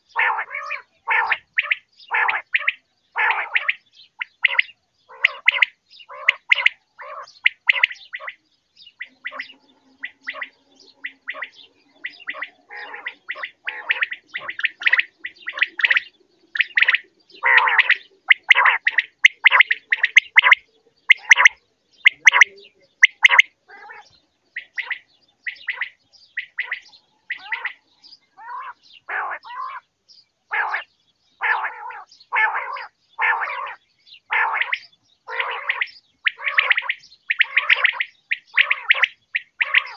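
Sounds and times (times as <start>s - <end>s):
quail calling: 0.0s - 29.9s, 30.5s - 39.9s.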